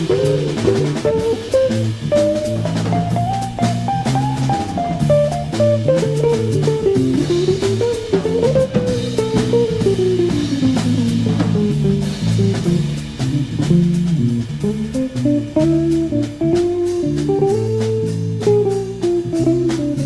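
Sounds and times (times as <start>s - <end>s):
bass guitar: 0.0s - 20.0s
drum kit beat: 0.0s - 20.0s
guitar melody: 0.0s - 20.0s.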